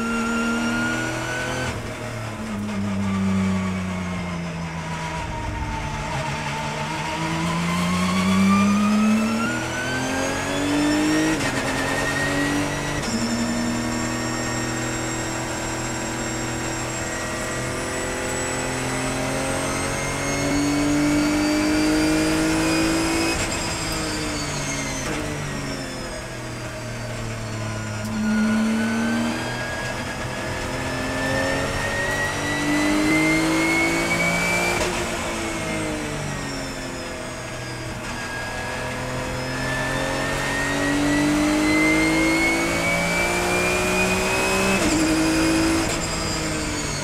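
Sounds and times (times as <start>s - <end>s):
race car engine from cockpit: 0.0s - 47.0s.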